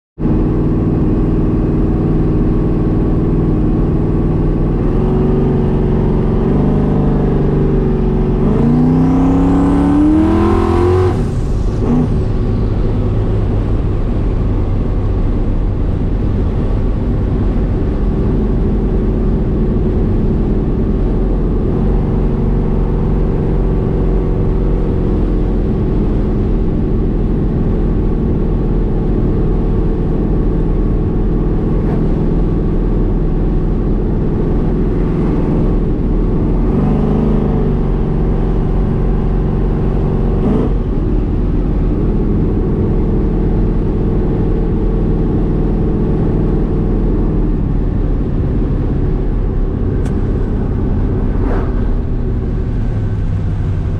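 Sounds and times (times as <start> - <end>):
car engine revving: 0.2 - 53.9
high turbo whine: 0.2 - 53.9.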